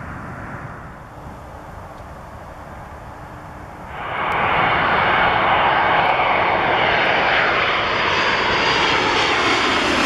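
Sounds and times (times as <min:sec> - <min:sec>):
faint whine dropping in pitch: 0:00.0 - 0:10.0
jet engine rush overhead: 0:00.0 - 0:10.0.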